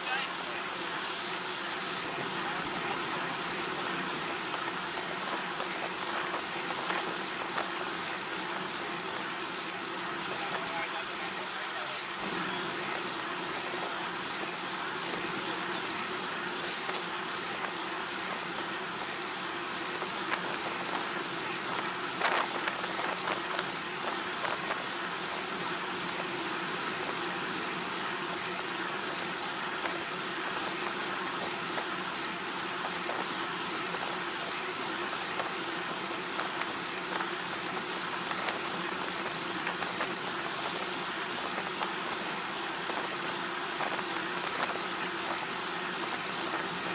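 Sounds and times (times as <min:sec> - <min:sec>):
vehicle engine and road drone: 0:00.0 - 0:46.9.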